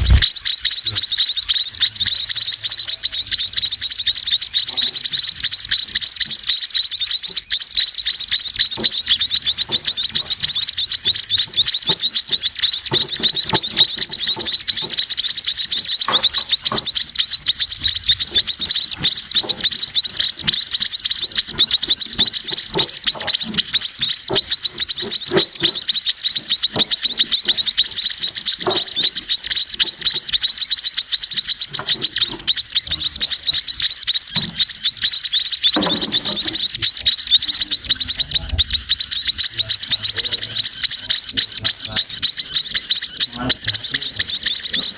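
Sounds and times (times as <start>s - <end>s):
baby sparrows chirping: 0.0s - 44.9s.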